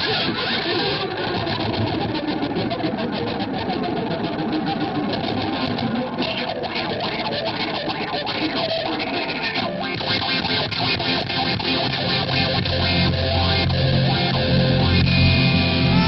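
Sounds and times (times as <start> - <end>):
distorted bowed electric guitar: 0.0 - 16.0.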